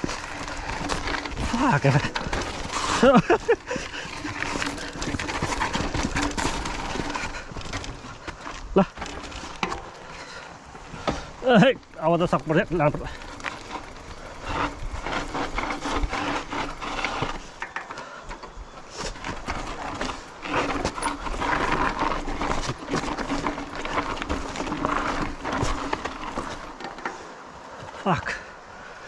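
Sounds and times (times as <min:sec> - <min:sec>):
bike clattering over bumps: 0:00.0 - 0:28.4
tyre noise on dirt: 0:00.0 - 0:29.0.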